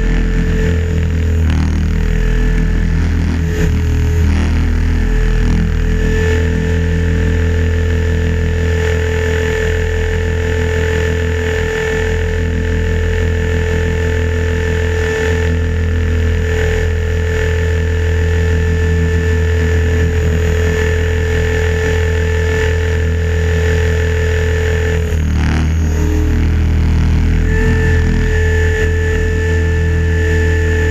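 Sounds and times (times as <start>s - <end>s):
electric motor whine: 0.0s - 30.9s
strong low drone: 0.0s - 30.9s.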